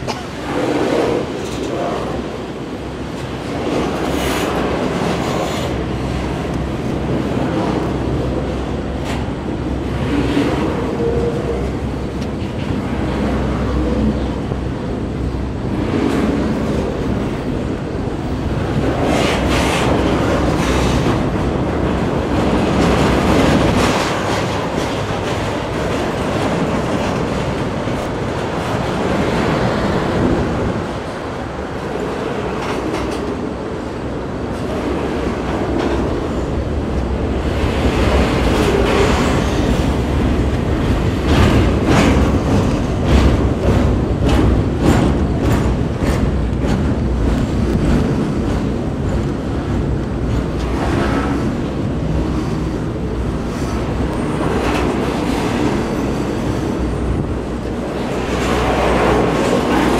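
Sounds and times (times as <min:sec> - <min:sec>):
steel train wheels rumbling on rail: 0:00.0 - 0:59.9
train cars knocking: 0:00.0 - 0:59.9.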